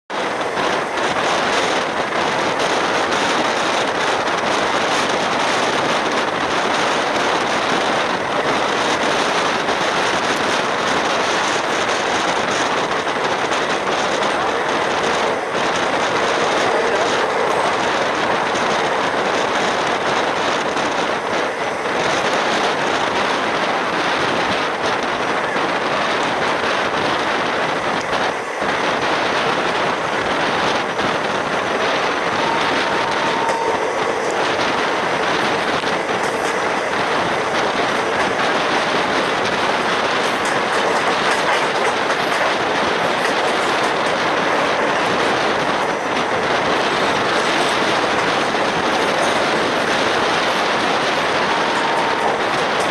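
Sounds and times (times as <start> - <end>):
train wheels rumbling on rails: 0.0 - 52.9
wheels clattering over rail joints: 0.1 - 52.9.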